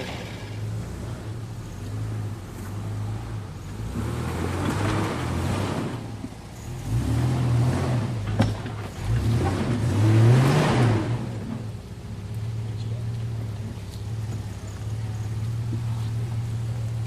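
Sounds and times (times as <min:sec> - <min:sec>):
vehicle engine revving under load: 0:00.0 - 0:17.0.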